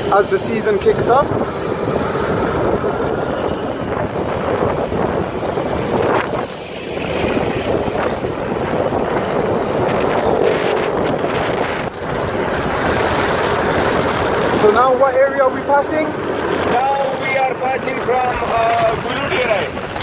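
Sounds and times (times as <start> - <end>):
motorcycle engine running: 0.0 - 20.0
wind rushing over microphone: 0.0 - 20.0.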